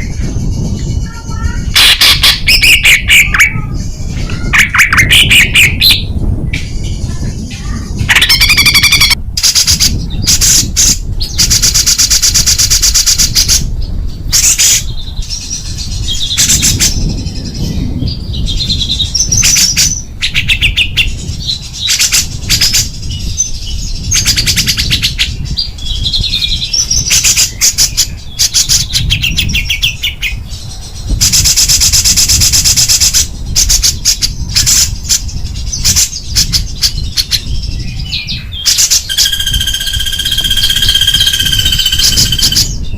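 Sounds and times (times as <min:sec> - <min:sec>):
songbird chattering and trilling: 0:00.0 - 0:42.9.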